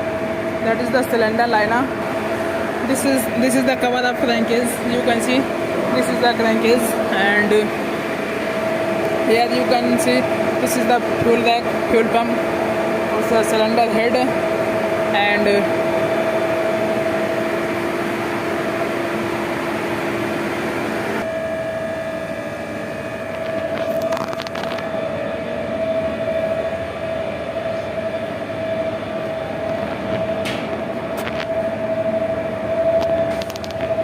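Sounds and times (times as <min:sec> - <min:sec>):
engine room machinery droning: 0:00.0 - 0:34.0.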